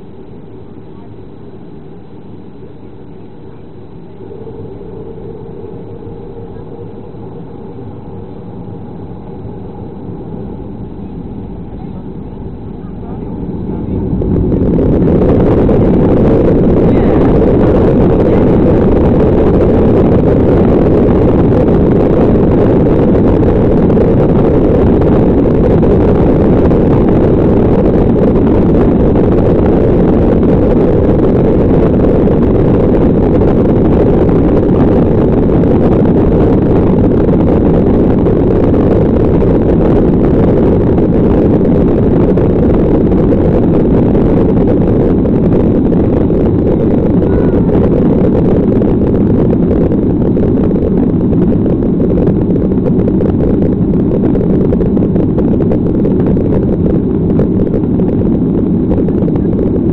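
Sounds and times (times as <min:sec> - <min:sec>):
jet cabin engine rumble: 0:00.0 - 0:59.9.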